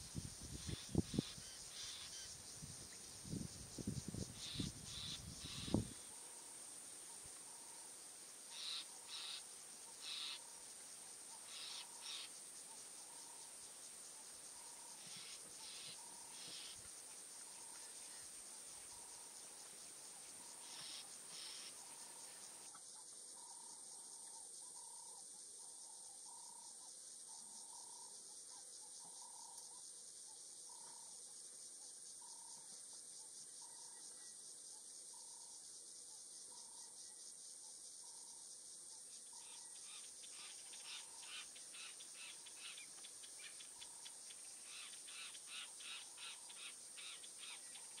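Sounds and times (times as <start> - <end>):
high insect drone: 0.0 - 48.0.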